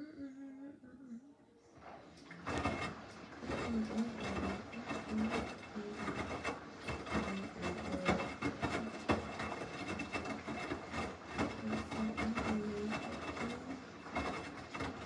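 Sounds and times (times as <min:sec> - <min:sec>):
low washing machine hum: 0:00.0 - 0:15.0
washing machine drum rubbing and knocking: 0:02.4 - 0:15.0.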